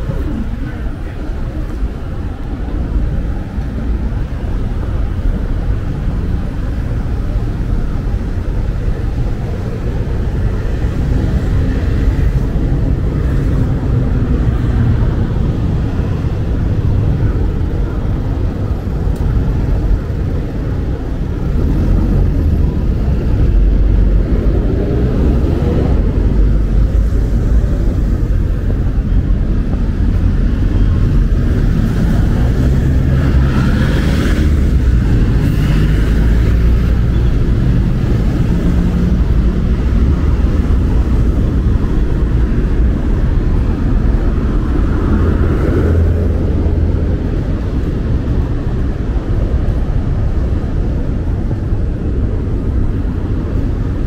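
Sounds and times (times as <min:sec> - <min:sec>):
passing cars rumbling: 0:00.0 - 0:54.0.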